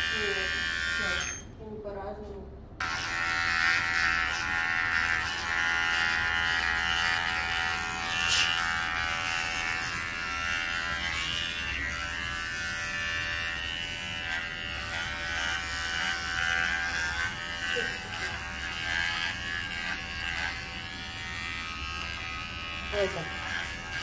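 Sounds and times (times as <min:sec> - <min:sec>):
electric clippers buzzing: 0:00.0 - 0:01.5, 0:02.8 - 0:24.0.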